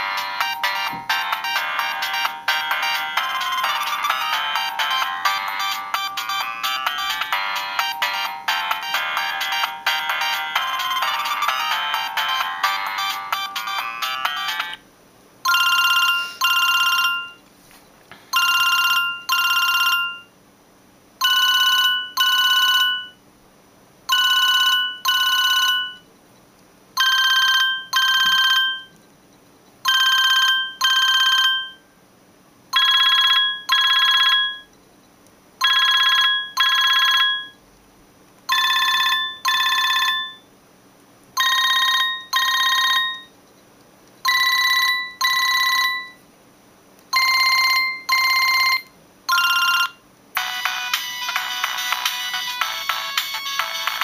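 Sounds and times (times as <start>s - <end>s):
electronic phone ringtone trills: 0.0s - 14.8s, 15.4s - 17.4s, 18.3s - 20.3s, 21.2s - 23.2s, 24.1s - 26.1s, 27.0s - 29.0s, 29.8s - 31.8s, 32.7s - 34.7s, 35.6s - 37.6s, 38.5s - 40.5s, 41.4s - 43.3s, 44.3s - 46.2s, 47.2s - 54.0s.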